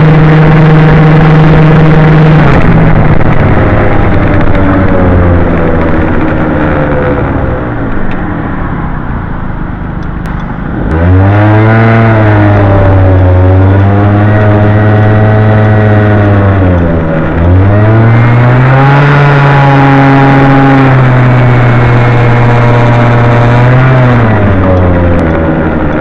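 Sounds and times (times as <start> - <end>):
scooter engine accelerating: 0.0 - 26.0.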